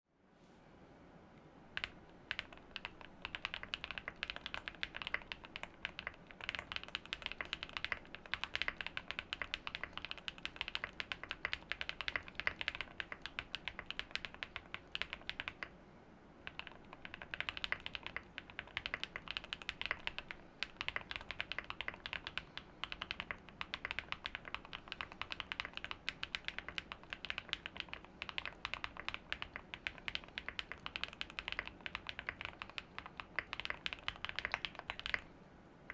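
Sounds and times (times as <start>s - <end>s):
mechanical keyboard typing: 1.8s - 15.7s, 16.4s - 35.3s.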